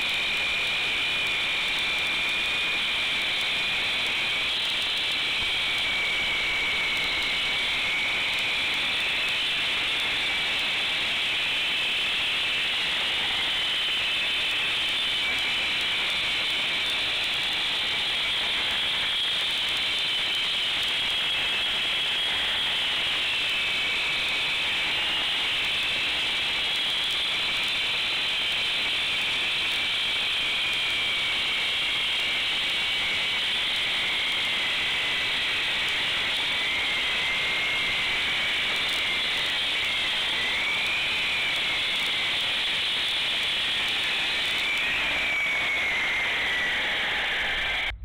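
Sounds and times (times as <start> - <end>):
concrete saw cutting concrete: 0.2 - 47.9.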